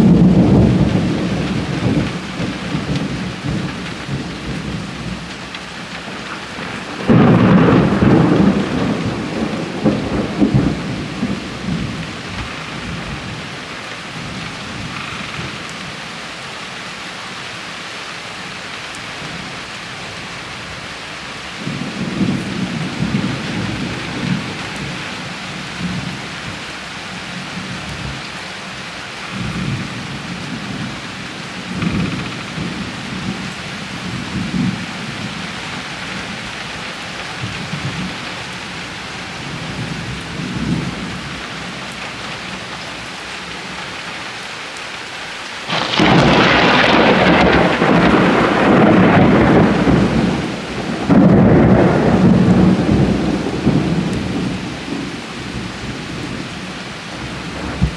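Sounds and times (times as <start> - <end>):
low rumbles of thunder: 0.0 - 15.7, 21.6 - 26.6, 27.4 - 36.5, 37.2 - 42.9, 45.7 - 57.9
steady rainfall: 0.0 - 57.9.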